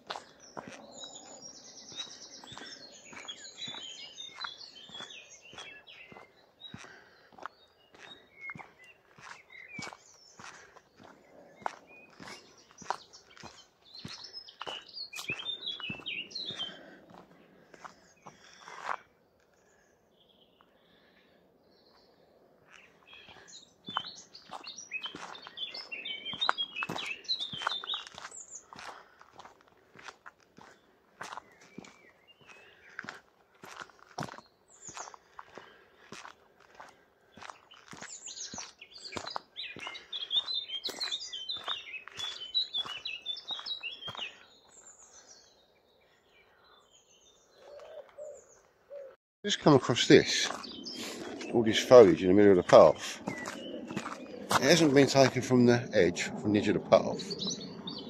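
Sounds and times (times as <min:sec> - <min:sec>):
songbird singing with trill: 0:00.0 - 0:17.0, 0:19.6 - 0:28.8, 0:37.3 - 0:58.0
footsteps on a path: 0:00.0 - 0:19.8, 0:21.8 - 0:45.6, 0:49.6 - 0:58.0.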